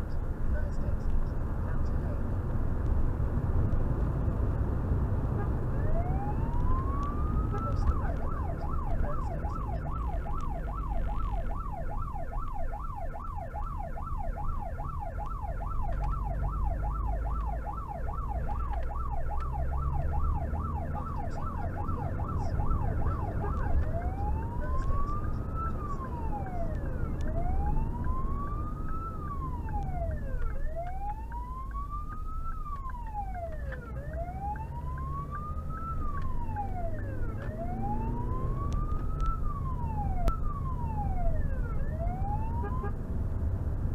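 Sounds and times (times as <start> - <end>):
car engine and road rumble: 0.0 - 43.9
siren yelping and wailing: 5.4 - 43.0.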